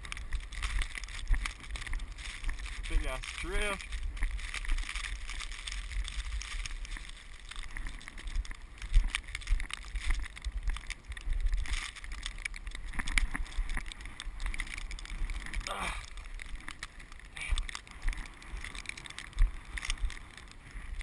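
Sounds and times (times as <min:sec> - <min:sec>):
crackles and knocks: 0:00.0 - 0:21.0.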